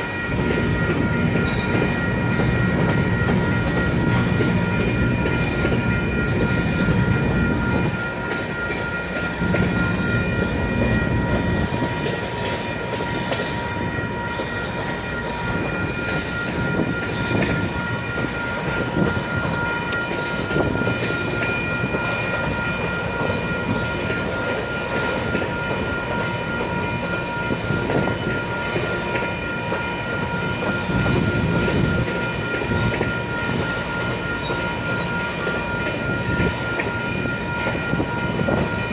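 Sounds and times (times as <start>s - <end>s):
train wheels rumbling and clattering: 0.0s - 38.9s.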